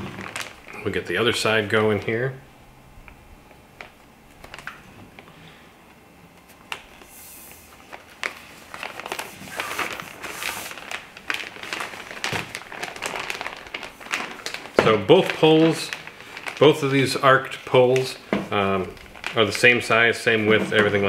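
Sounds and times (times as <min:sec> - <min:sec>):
fabric rustling and crinkling: 0:00.0 - 0:02.2, 0:03.6 - 0:05.5, 0:06.4 - 0:21.0.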